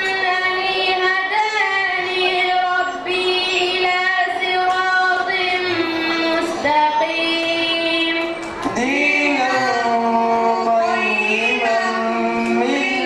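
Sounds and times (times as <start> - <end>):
boy reciting melodically through pa: 0.0 - 13.0.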